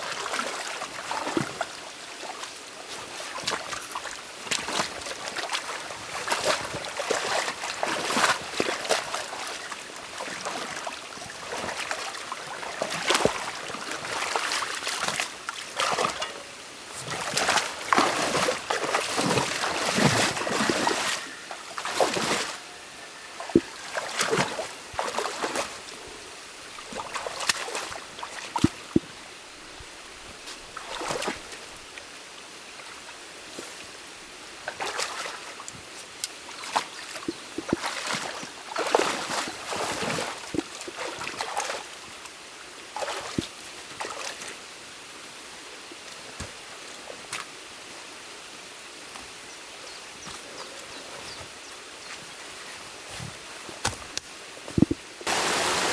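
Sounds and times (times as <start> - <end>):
water splashes: 0.0 - 32.2, 33.4 - 45.3, 50.2 - 55.9
stream water trickling: 0.0 - 55.9.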